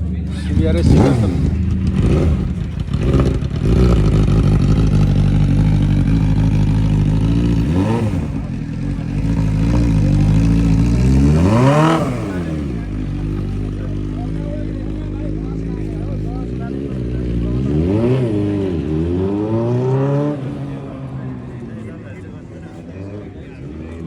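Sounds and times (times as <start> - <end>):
motorcycle engine idling: 0.0 - 24.0
motorcycle engine revving: 0.0 - 24.0.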